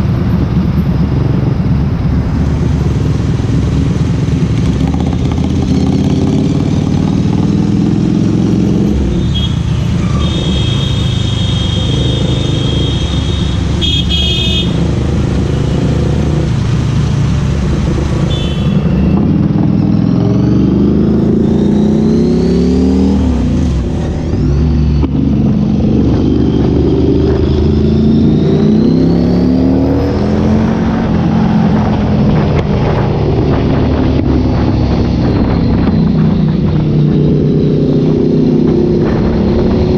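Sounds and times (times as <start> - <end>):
motorcycle engine accelerating: 0.0 - 13.8, 14.6 - 39.9.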